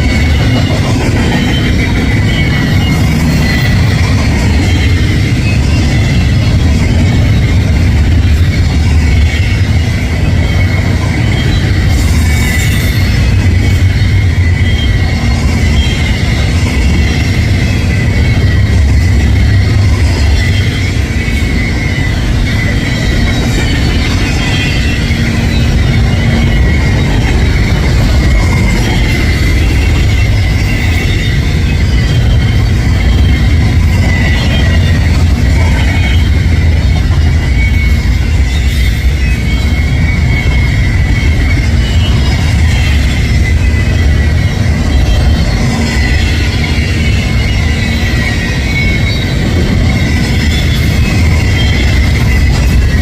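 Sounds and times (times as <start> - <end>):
freight train wheels rumbling: 0.0 - 53.0
high wheel squeal: 0.0 - 53.0.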